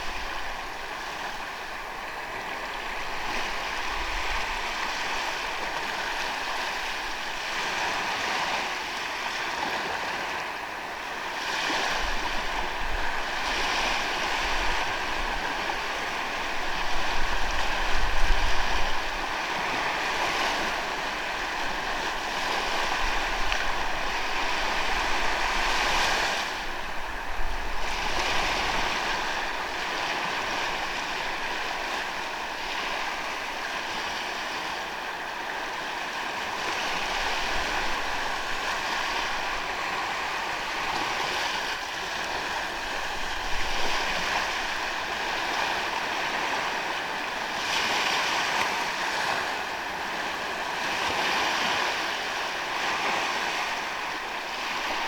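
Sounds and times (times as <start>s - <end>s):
sea waves washing up beach: 0.0s - 55.0s
wind on microphone: 0.0s - 55.0s.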